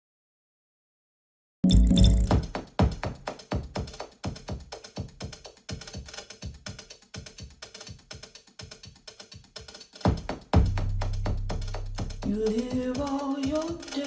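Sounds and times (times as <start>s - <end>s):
percussion music over loudspeakers: 1.6s - 14.0s.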